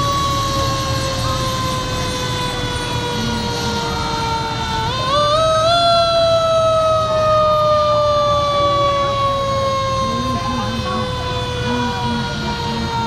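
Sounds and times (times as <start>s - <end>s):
fire truck siren: 0.0s - 13.0s
truck engines rumbling: 0.0s - 13.0s.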